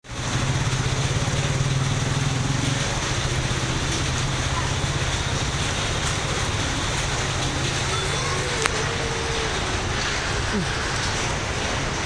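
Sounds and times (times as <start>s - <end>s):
rain hissing on wet road: 0.0s - 12.0s
vehicle engine humming: 0.0s - 12.0s.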